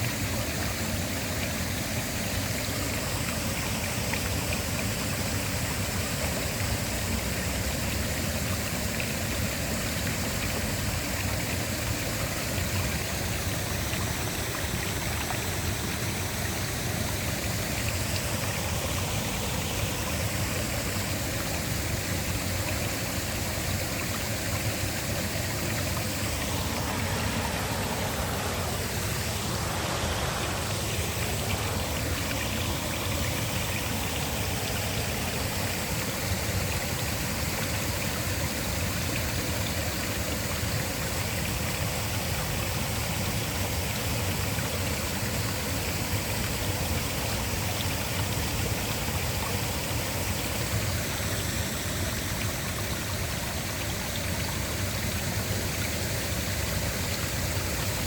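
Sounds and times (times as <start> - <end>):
waterfall rushing: 0.0 - 55.2.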